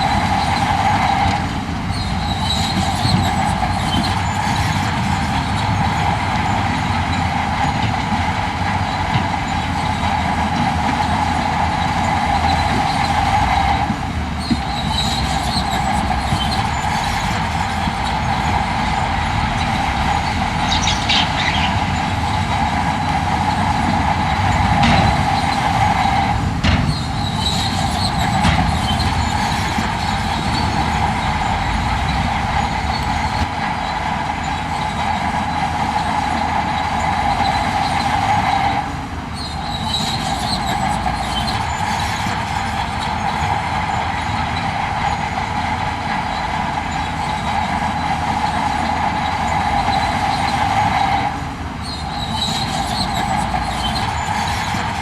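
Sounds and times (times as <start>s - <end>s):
diesel machinery engine rumble: 0.0s - 55.0s
high mechanical whine: 0.0s - 55.0s.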